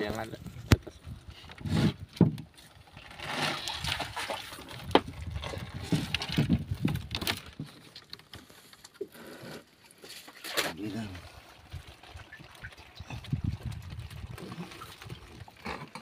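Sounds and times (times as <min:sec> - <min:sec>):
water sloshing and splashing: 0:00.6 - 0:16.0.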